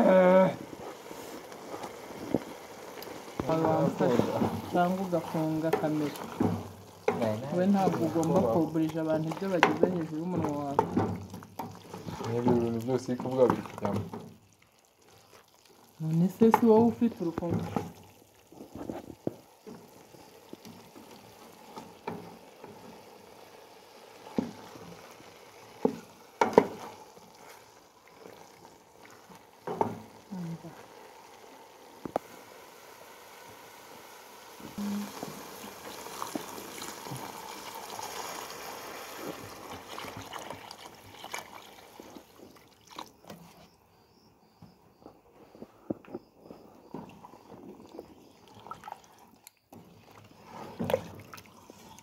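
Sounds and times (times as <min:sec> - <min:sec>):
wooden spoon stirring in pot: 0:00.0 - 0:32.4, 0:34.5 - 0:43.8, 0:45.4 - 0:52.0
water pouring into pot: 0:00.0 - 0:43.4, 0:46.9 - 0:52.0.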